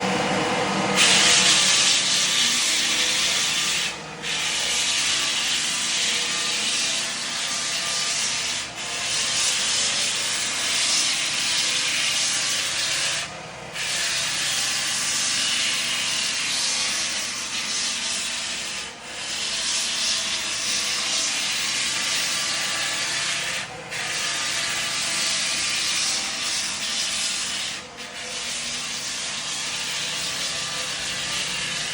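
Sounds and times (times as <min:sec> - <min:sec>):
wooden board being sanded: 0:01.0 - 0:31.9.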